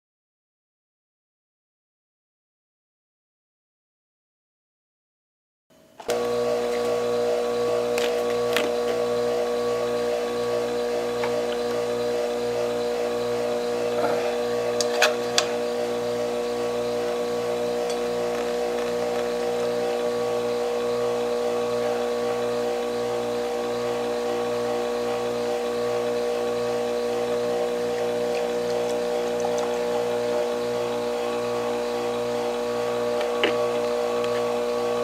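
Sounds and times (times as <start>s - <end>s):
whetstone sharpener motor hum: 6.0s - 35.0s.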